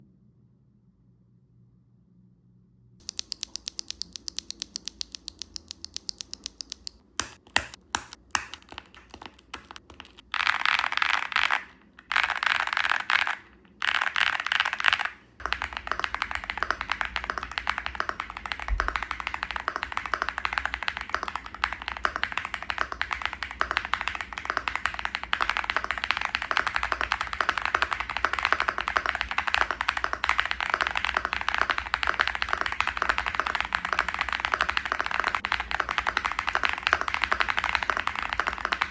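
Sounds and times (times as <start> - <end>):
mechanical keyboard typing: 3.0 - 38.9.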